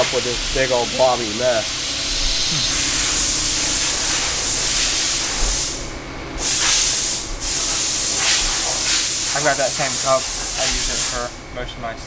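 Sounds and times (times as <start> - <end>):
welding arc hissing: 0.0 - 11.3.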